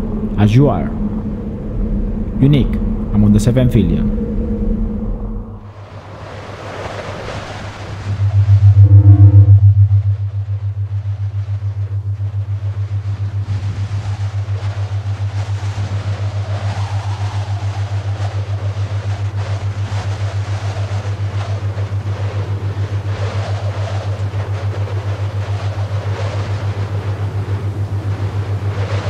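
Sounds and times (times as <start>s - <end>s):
pulsing low bass drone: 0.0s - 5.7s, 8.0s - 29.0s.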